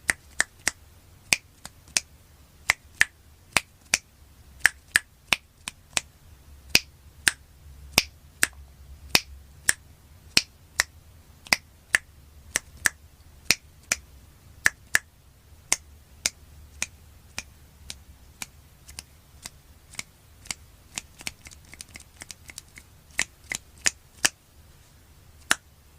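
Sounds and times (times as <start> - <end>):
fingers snapping: 0.0 - 2.1, 2.7 - 6.1, 6.7 - 7.4, 8.0 - 14.0, 14.6 - 15.1, 15.7 - 24.4, 25.4 - 25.6.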